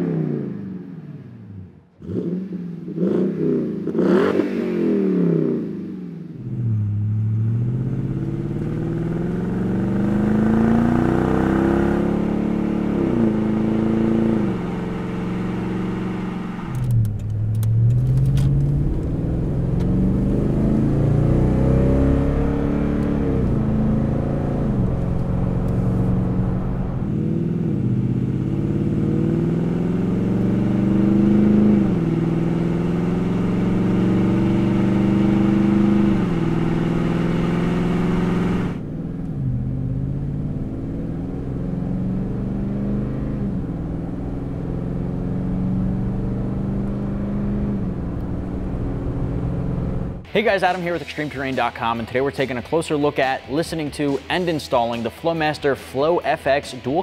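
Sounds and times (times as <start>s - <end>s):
truck engine revving and accelerating: 2.0s - 5.8s, 6.4s - 51.5s.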